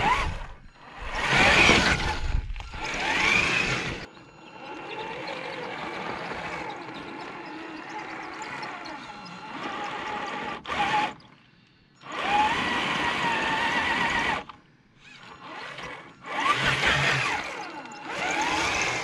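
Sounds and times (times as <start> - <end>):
toy car electric motor whining: 0.0 - 11.4, 12.0 - 19.0.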